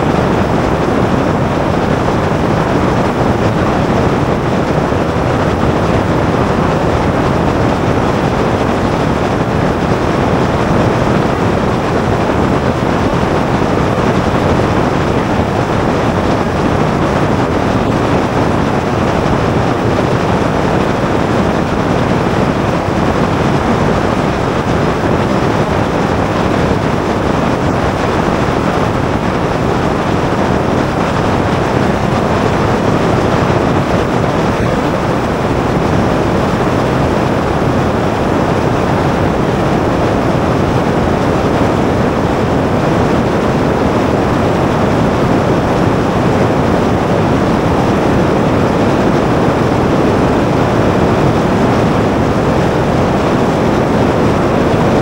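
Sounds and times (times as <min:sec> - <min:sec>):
aircraft airflow and engine rush: 0:00.0 - 0:55.0.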